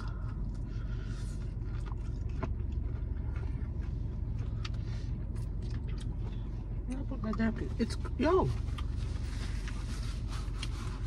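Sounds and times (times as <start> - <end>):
person chewing with wet smacks: 0.0 - 9.8
low hum inside a car: 0.0 - 11.0.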